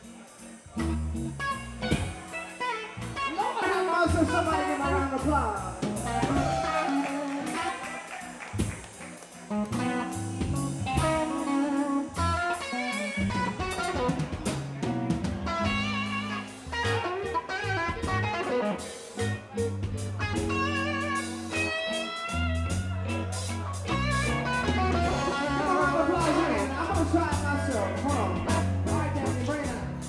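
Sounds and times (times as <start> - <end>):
blues band playing live: 0.0 - 30.0
electric guitar lead phrases: 0.0 - 30.0.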